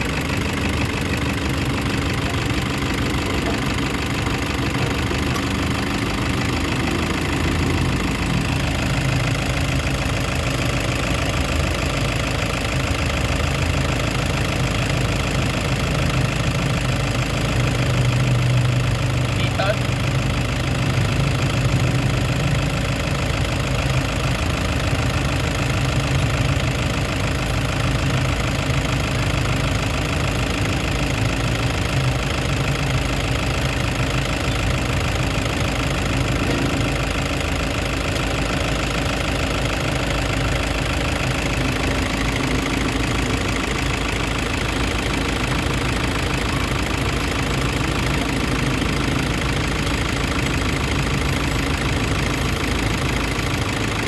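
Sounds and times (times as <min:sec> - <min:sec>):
van engine idling: 0:00.0 - 0:54.0.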